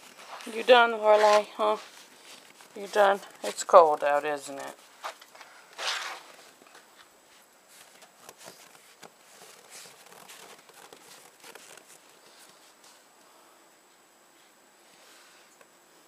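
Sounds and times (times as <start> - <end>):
footsteps crunching in snow: 0.0 - 13.0
steady hiss: 0.0 - 16.0.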